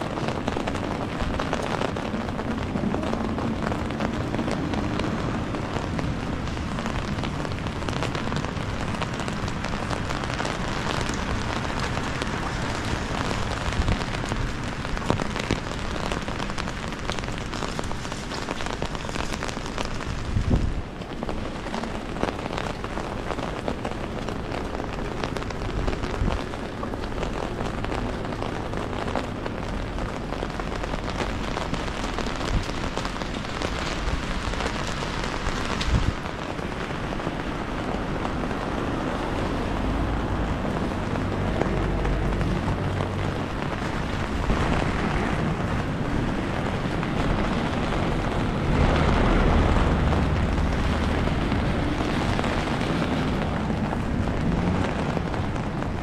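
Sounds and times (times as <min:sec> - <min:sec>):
rain falling on street: 0:00.0 - 0:56.0.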